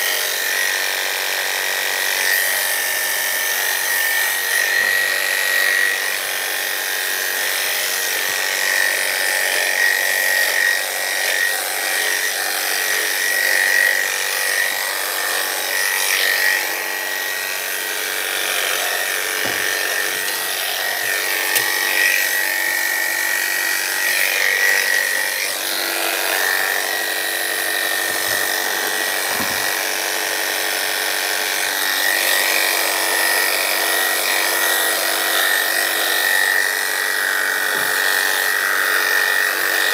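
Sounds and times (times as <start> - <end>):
electric clippers buzzing: 0.0 - 39.9.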